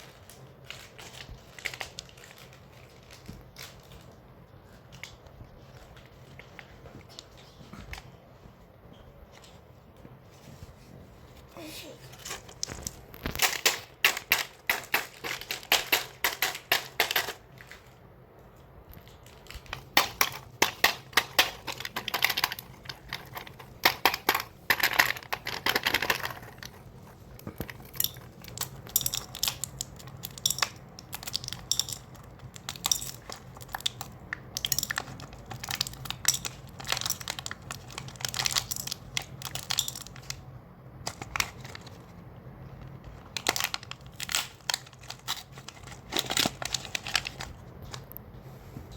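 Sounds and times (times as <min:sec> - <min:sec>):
hard candies clicking and rattling: 0:00.0 - 0:07.4, 0:12.1 - 0:48.2
plastic candy packets crinkling: 0:00.0 - 0:08.1, 0:11.6 - 0:48.2.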